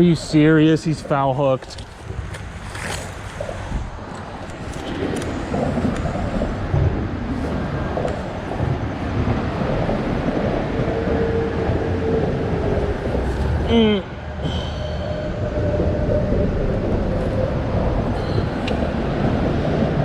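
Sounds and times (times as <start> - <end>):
low rumbling noise: 0.0 - 20.0.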